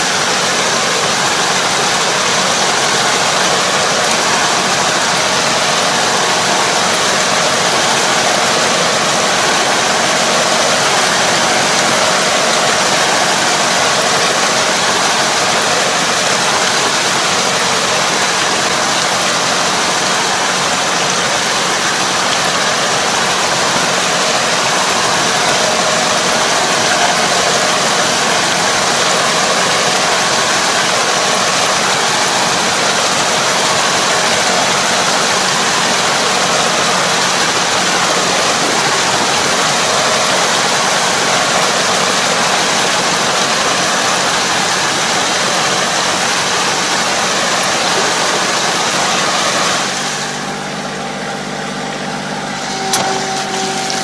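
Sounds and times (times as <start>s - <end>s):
tractor engine humming: 0.0s - 54.0s
water and mud churning: 0.0s - 54.0s.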